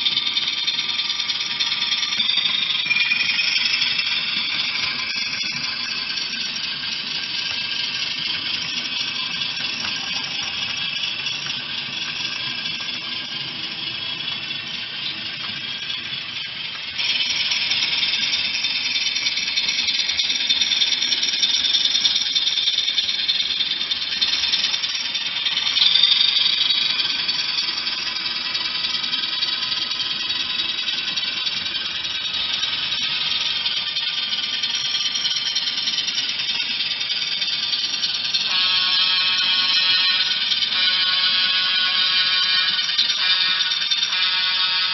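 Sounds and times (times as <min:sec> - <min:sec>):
model train whine and rattle: 0:00.0 - 0:44.9.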